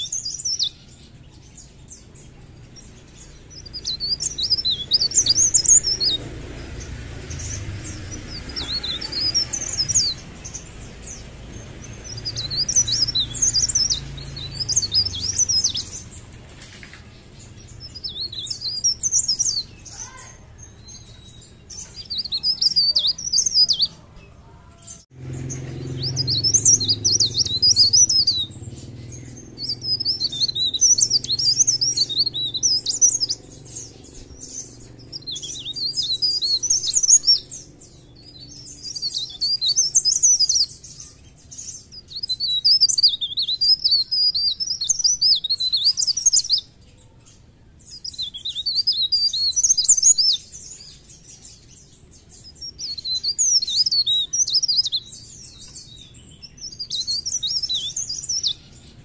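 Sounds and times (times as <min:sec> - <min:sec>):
warbler twittering song: 0:00.0 - 0:59.0.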